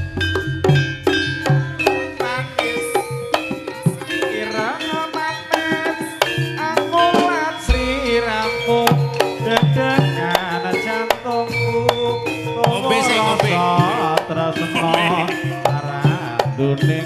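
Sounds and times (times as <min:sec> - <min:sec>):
hand drums beating: 0:00.0 - 0:17.0
ringing struck metal notes: 0:00.0 - 0:17.0
wavering melody line: 0:01.2 - 0:17.0.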